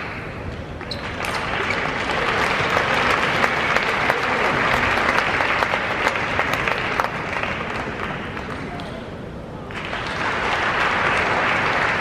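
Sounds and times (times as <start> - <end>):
spectators clapping: 1.0 - 9.0, 9.6 - 12.0.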